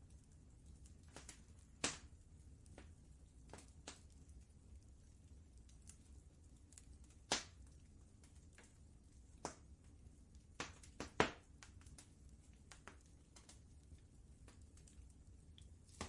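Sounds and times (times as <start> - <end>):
faint low rumble: 0.0 - 16.0
wood fire crackling: 0.0 - 16.0.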